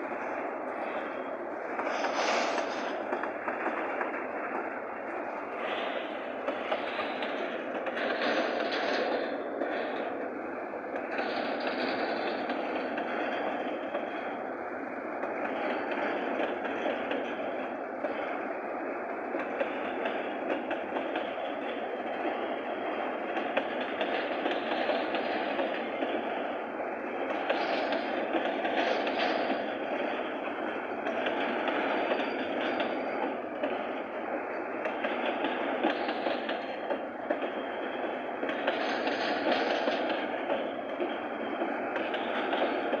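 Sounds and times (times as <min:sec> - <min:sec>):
train wheels on rail: 0:00.0 - 0:43.0.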